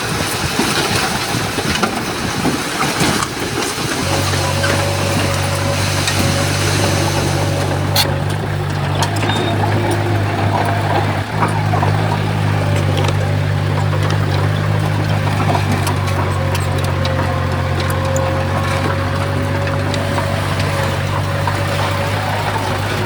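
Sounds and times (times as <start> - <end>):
bulldozer diesel engine droning: 0.0 - 23.0.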